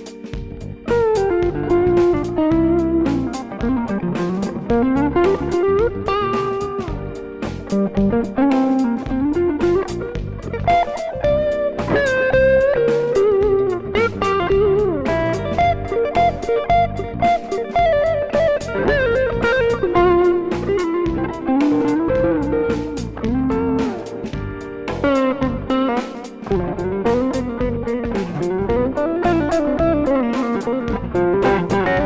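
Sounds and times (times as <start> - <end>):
backing track with drums: 0.0 - 32.0
electric guitar solo: 0.0 - 32.0.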